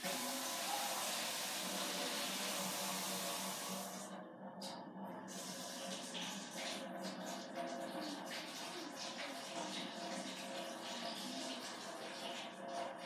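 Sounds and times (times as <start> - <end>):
water running from a tap: 0.0 - 4.1, 5.3 - 13.0.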